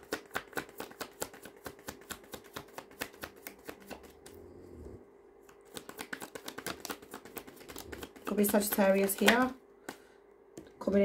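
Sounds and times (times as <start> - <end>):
cards being shuffled: 0.0 - 4.3, 5.5 - 10.1.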